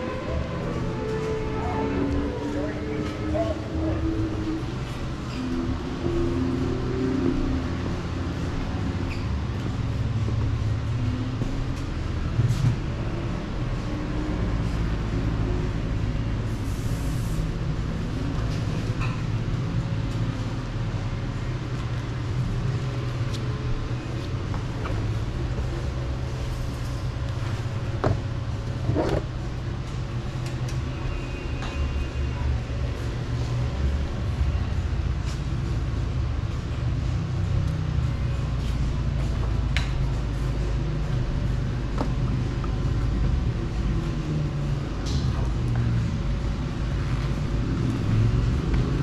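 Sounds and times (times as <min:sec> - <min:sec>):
road and wind noise: 0:00.0 - 0:49.0.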